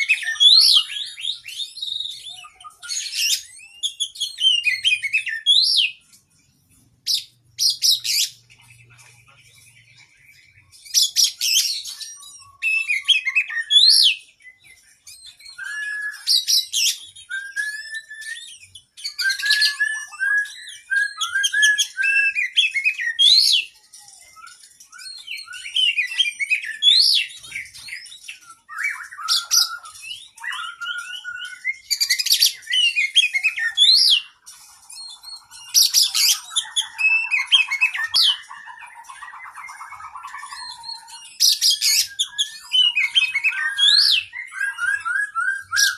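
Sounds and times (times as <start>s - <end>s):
bird singing varied song: 0.0s - 45.9s.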